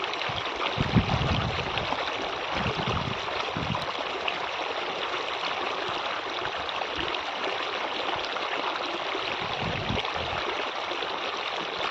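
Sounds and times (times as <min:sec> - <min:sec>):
flowing water rushing: 0:00.0 - 0:11.9.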